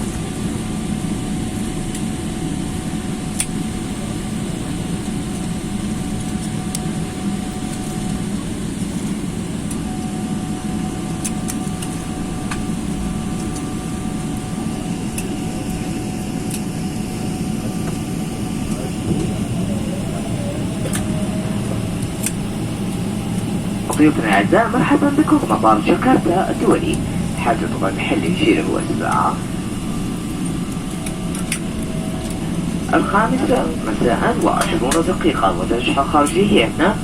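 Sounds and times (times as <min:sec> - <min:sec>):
airliner cabin engine rumble: 0:00.0 - 0:37.0
faint steady tones: 0:01.1 - 0:37.0.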